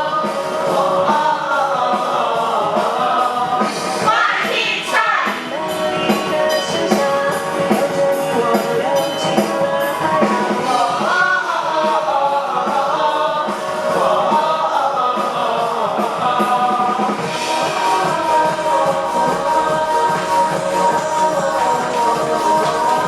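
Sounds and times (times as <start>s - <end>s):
pop song with group vocals: 0.0s - 23.0s.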